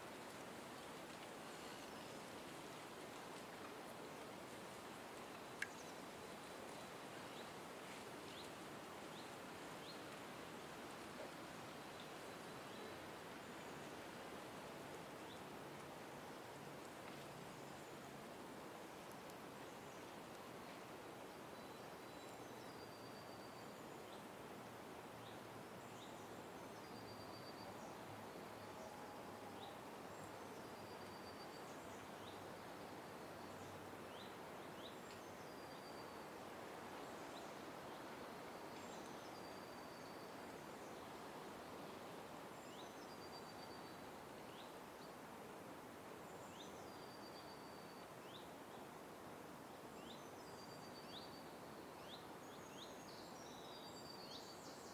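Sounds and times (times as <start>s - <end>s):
background hiss: 0.0s - 54.9s.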